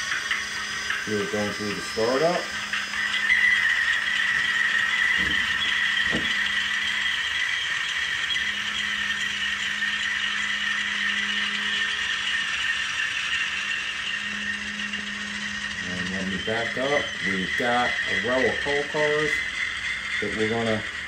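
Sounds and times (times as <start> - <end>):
low hum: 0.0 - 21.0
rattly diesel running sound: 0.0 - 21.0.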